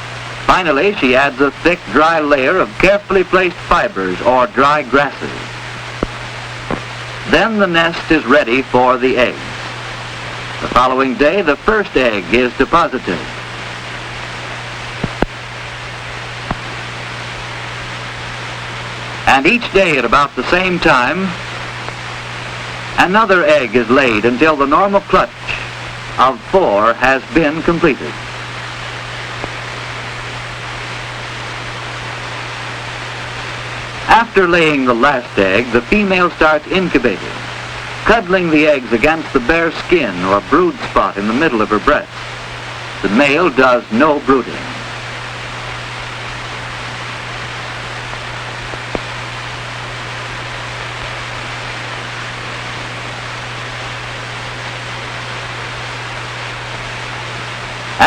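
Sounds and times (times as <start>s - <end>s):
film soundtrack hiss: 0.0s - 58.0s.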